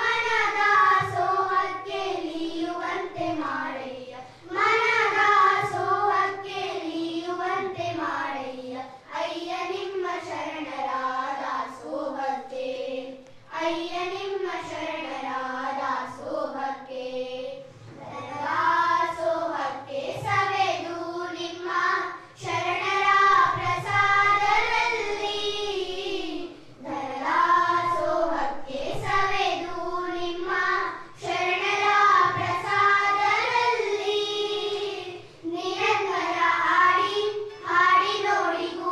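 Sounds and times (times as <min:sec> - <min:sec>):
girls singing into a microphone: 0:00.0 - 0:38.9.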